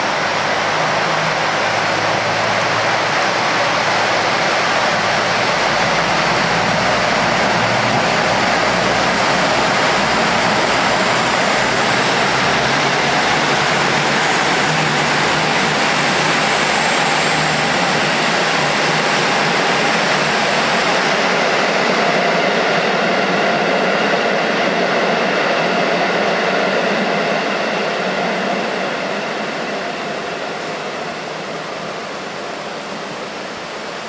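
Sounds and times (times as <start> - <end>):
train rushing noise: 0.0 - 34.0.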